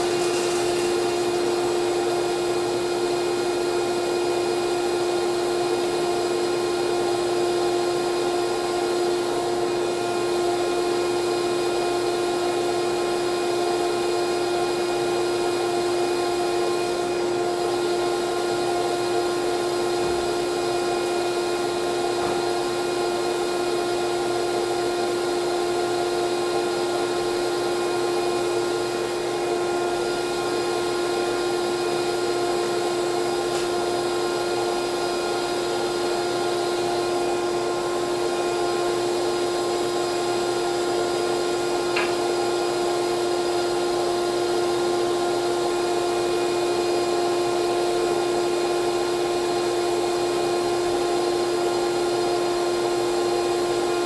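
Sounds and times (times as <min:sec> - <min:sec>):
vacuum cleaner whine: 0:00.0 - 0:54.0.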